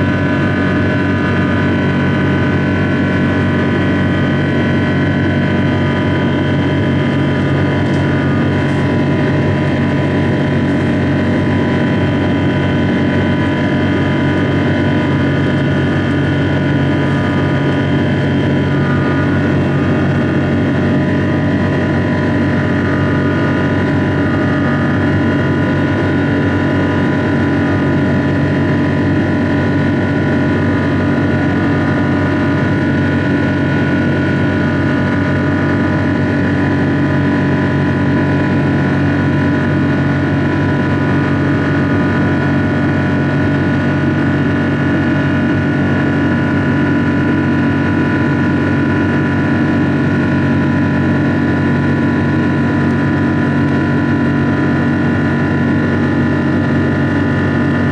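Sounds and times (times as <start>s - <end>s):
jet engine drone in cabin: 0.0s - 57.9s
steady humming tones: 0.0s - 57.9s.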